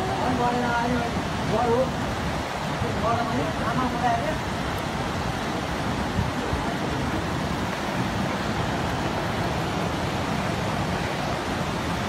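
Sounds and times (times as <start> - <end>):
flood torrent rushing: 0.0 - 12.0.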